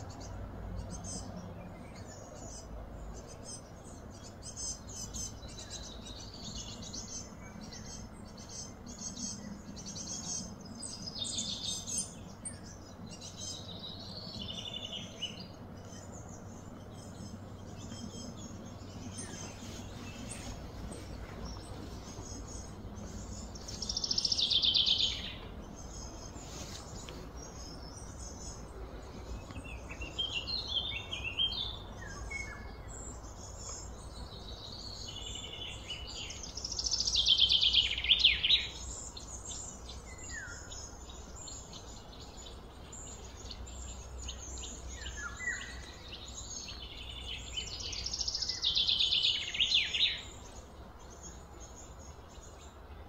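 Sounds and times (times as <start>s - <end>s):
bird chirps: 0.0s - 53.0s.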